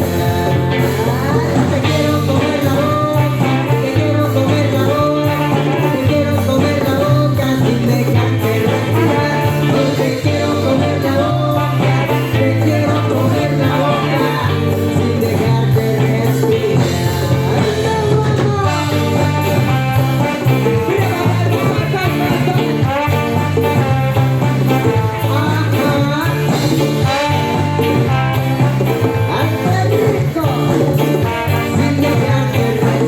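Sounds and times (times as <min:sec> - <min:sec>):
live band playing latin music: 0:00.0 - 0:33.0
stepping bass line: 0:00.0 - 0:33.0.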